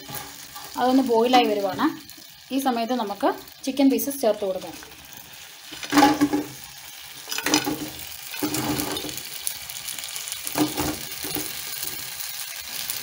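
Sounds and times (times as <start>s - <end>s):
sauce sizzling and bubbling in pan: 0.0s - 13.0s.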